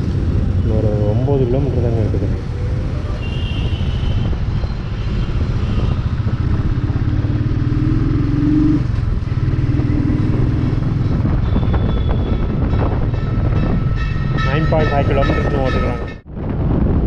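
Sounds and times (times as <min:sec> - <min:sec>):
motorcycle engine and exhaust: 0:00.0 - 0:14.6.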